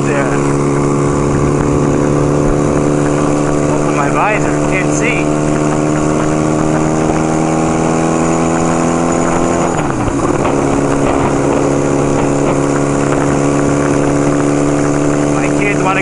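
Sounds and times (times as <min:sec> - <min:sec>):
wind rushing: 0:00.0 - 0:15.4
motorcycle engine running: 0:00.0 - 0:16.0.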